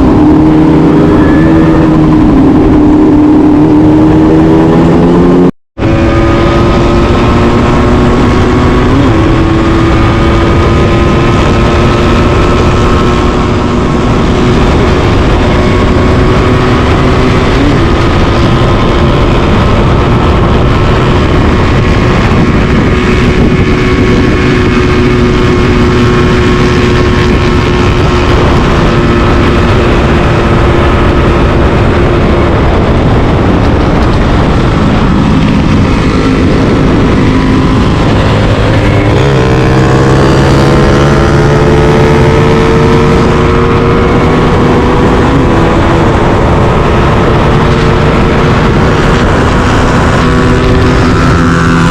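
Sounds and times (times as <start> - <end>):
motorcycle engine running: 0.0 - 51.9
steady rush of noise: 0.0 - 51.9.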